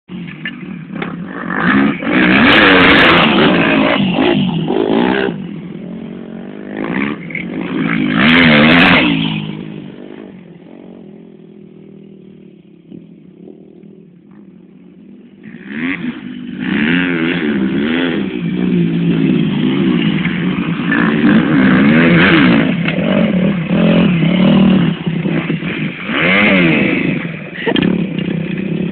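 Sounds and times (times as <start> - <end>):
motorcycle engines revving: 0.1 - 28.9.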